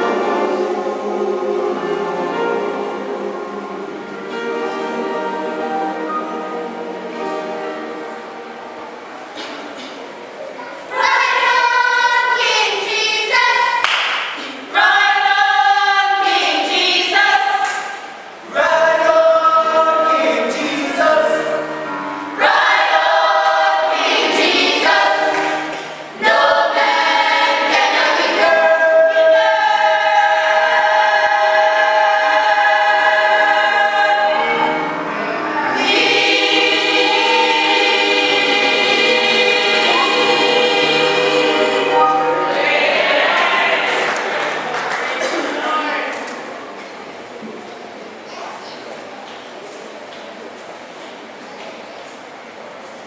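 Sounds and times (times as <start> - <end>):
choir singing a hymn: 0.0 - 9.2, 10.9 - 13.8, 14.6 - 45.6.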